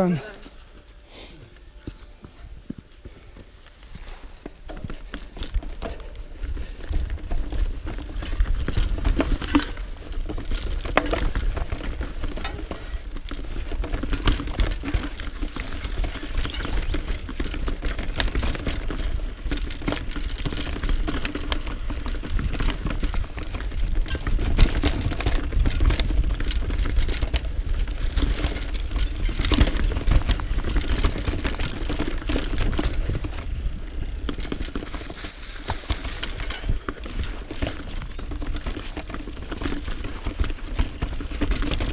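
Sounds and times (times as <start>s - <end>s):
tyres crunching over gravel: 0.0s - 41.9s
bike rattling and knocking: 1.8s - 41.9s.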